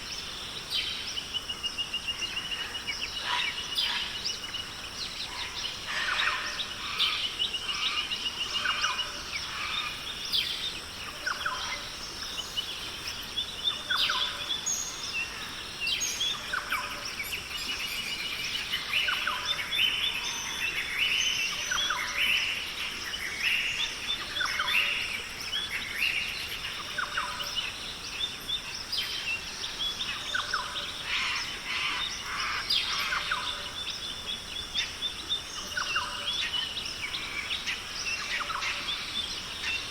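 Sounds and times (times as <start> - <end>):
birds calling and chirping: 0.0 - 39.9
high-pitched background hiss: 0.0 - 39.9.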